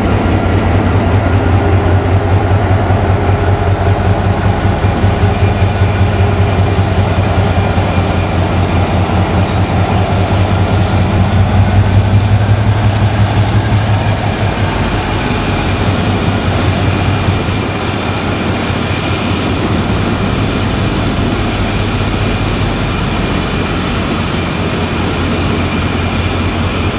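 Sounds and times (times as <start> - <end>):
locomotive engine throbbing: 0.0 - 26.9.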